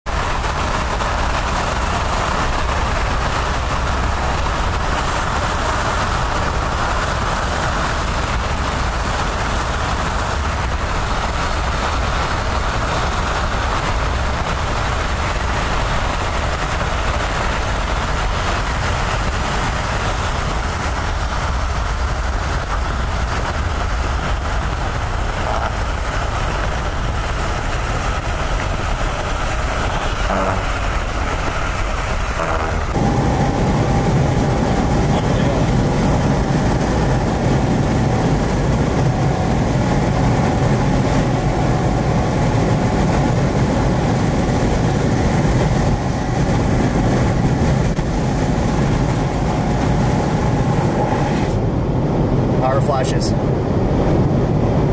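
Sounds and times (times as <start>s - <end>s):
strong wind on microphone: 0.1s - 54.9s.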